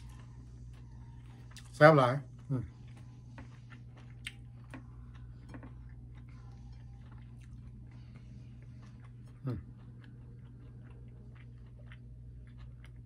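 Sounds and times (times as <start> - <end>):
faint chewing: 0.0 - 13.0
low steady hum: 0.0 - 13.0.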